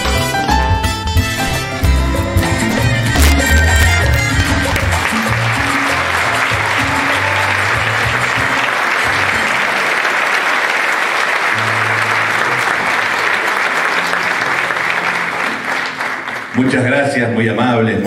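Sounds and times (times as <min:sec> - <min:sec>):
music: 0:00.0 - 0:10.5, 0:11.2 - 0:18.0
audience applauding: 0:01.8 - 0:17.2.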